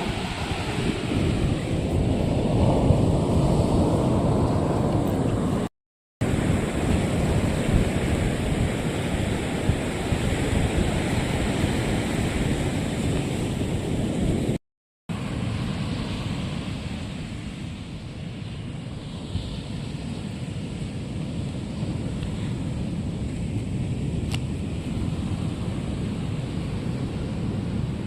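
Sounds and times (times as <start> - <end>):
ocean surf: 0.0 - 28.0
wind on microphone: 0.0 - 28.0.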